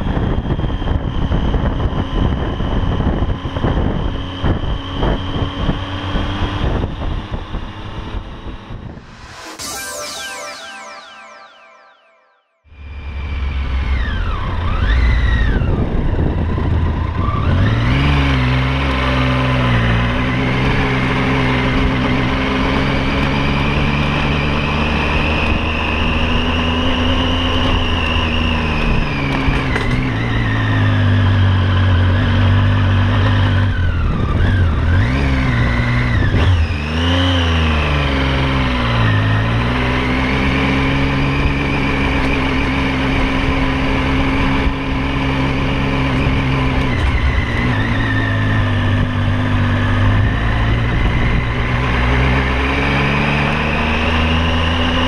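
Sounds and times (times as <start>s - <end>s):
motorcycle engine accelerating: 0.0s - 10.0s, 12.8s - 55.0s.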